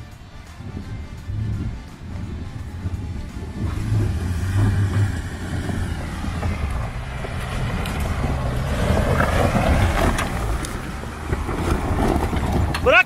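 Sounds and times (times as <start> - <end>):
pickup engine running under load: 0.0 - 13.0
stones crunching under tyres: 0.8 - 13.0.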